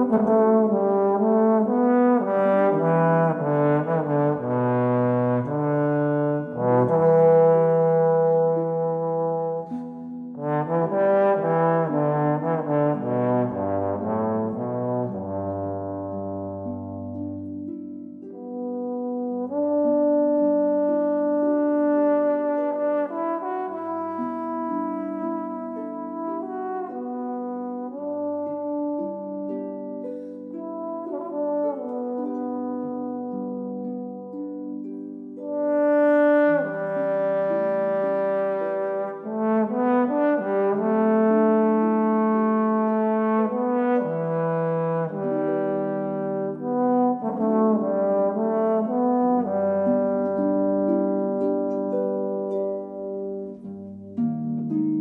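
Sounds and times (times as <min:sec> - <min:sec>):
trombone melody: 0:00.0 - 0:17.5, 0:18.3 - 0:55.0
harp notes: 0:00.0 - 0:55.0.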